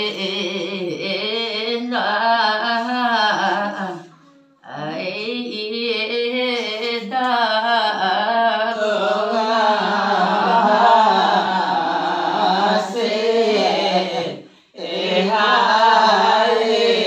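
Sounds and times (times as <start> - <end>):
voices singing a slow chant: 0.0 - 17.0.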